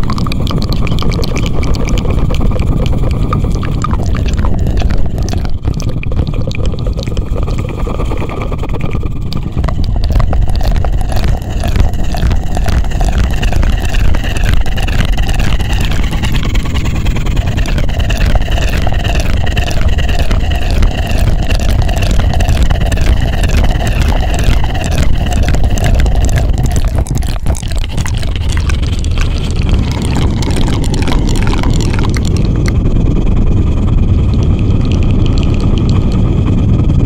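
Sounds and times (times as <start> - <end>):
deep rumble: 0.0 - 37.0
rhythmic fluttering whoosh: 0.0 - 37.0.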